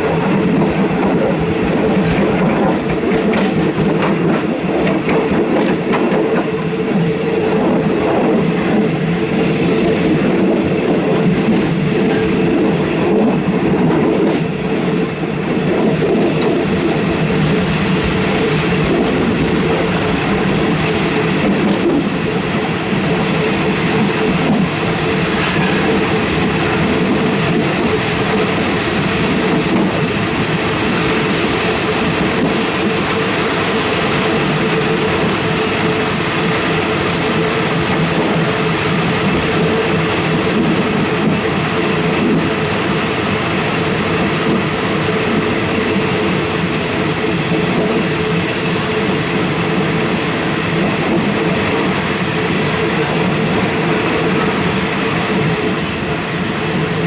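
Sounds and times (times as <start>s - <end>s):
passenger train rumbling: 0.0s - 57.0s.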